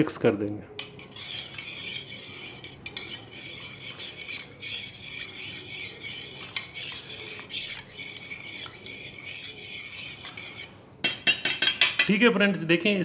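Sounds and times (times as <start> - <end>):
spoon scraping metal pot: 0.8 - 12.2.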